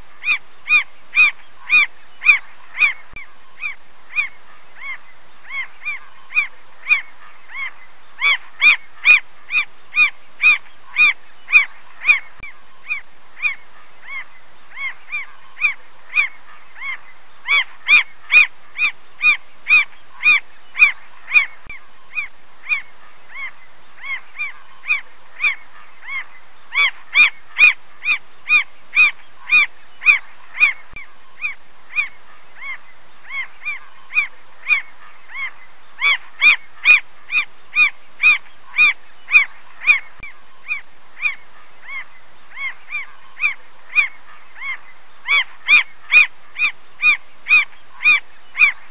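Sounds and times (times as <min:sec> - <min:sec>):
mockingbird harsh calls: 0:00.0 - 0:48.9.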